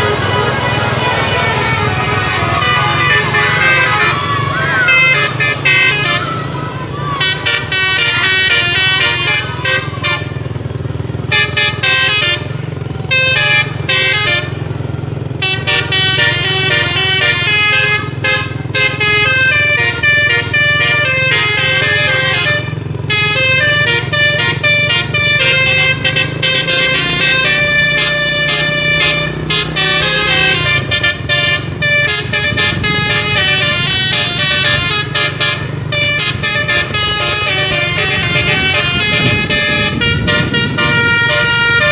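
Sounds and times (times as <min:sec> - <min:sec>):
musical air horn melody: 0:00.0 - 0:10.5, 0:11.3 - 0:14.7, 0:15.4 - 0:41.9
bus engine humming: 0:00.0 - 0:41.9.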